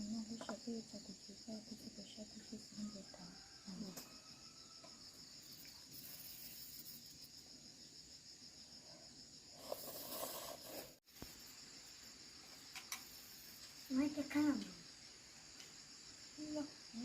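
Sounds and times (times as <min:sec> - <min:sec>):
insects chirring in a trill: 0:00.0 - 0:17.0.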